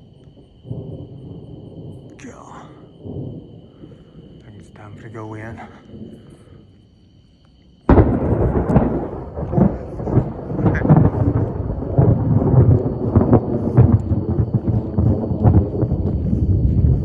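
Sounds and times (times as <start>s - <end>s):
thunder rumbling and crackling: 0.0s - 17.0s.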